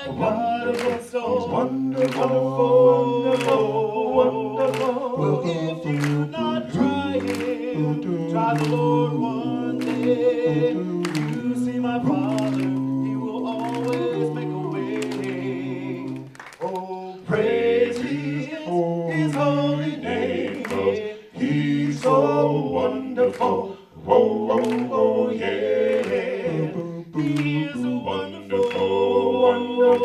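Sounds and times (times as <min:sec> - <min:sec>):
vocal group singing a cappella: 0:00.0 - 0:30.0.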